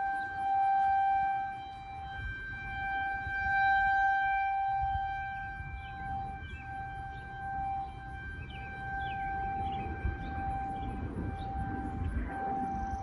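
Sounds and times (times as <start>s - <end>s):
horn-like drone: 0.0s - 13.0s.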